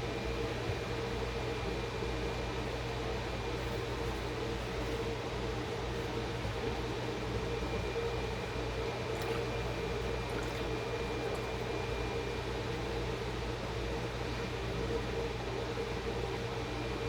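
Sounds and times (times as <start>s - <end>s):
appliance motor hum: 0.0s - 17.0s.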